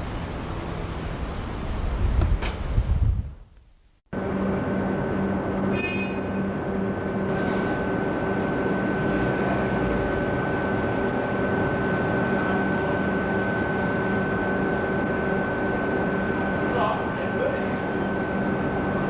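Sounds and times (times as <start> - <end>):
locomotive humming with high whine: 0.0 - 19.0.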